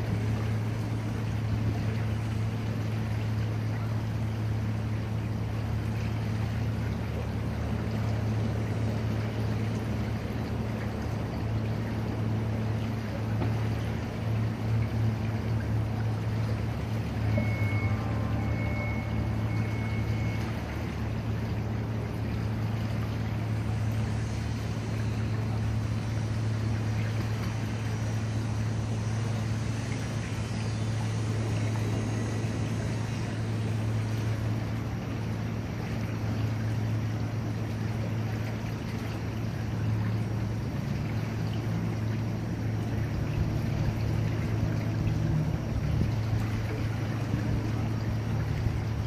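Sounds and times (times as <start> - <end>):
constant rushing noise: 0.0 - 49.0
low engine hum: 0.0 - 49.0.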